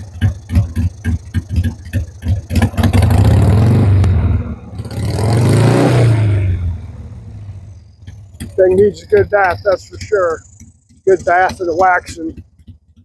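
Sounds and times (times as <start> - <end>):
motorcycle engine idling: 0.0 - 13.0
motorcycle engine revving: 0.0 - 13.0.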